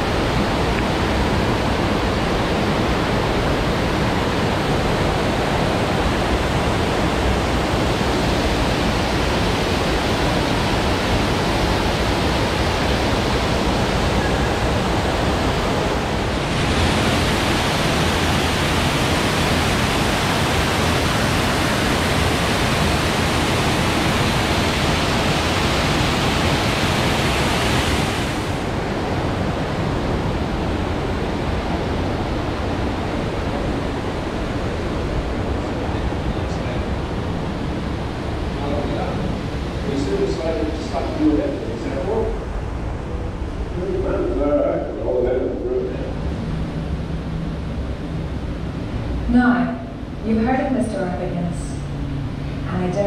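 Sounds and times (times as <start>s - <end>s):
indoor waterfall rushing: 0.0s - 52.9s.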